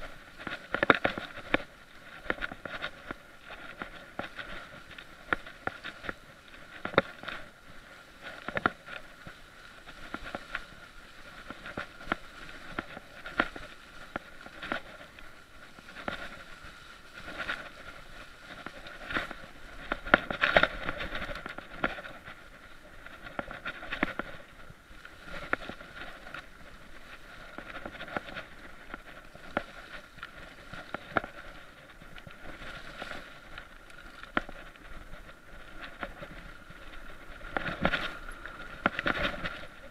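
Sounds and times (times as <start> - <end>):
mountain bike rattling: 0.0 - 39.9.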